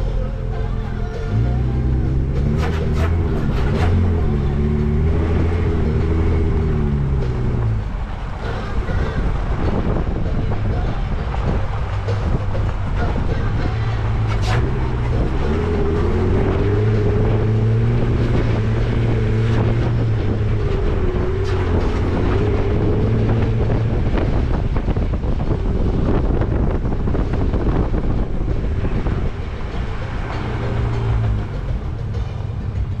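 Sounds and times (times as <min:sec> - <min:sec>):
vehicle engine running: 0:00.0 - 0:33.0
wind buffeting microphone: 0:02.2 - 0:33.0.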